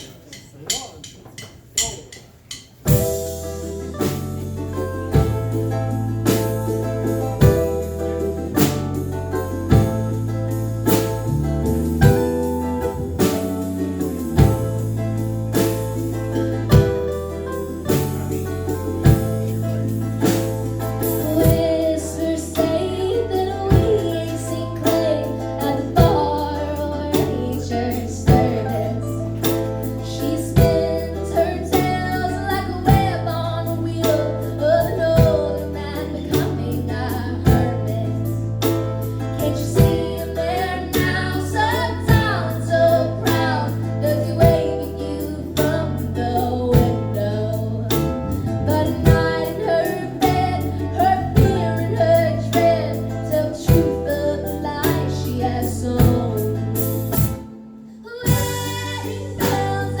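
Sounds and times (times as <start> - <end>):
live band playing: 0.0 - 60.0
woman singing lead: 11.9 - 60.0.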